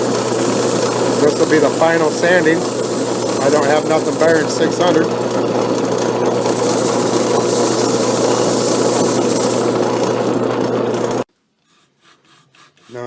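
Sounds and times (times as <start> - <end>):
sandpaper rubbing hiss: 0.0 - 5.6, 6.4 - 10.4, 11.6 - 13.0
wood lathe motor humming: 0.0 - 11.3.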